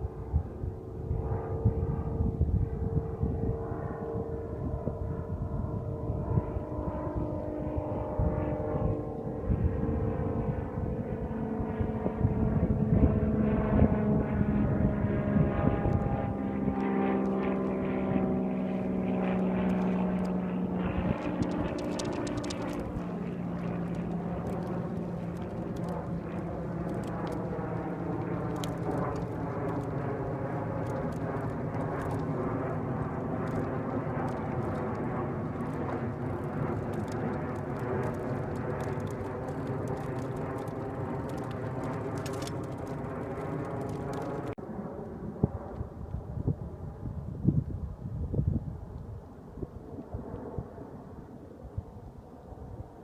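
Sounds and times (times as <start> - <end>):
distant engine droning: 0.0 - 44.6.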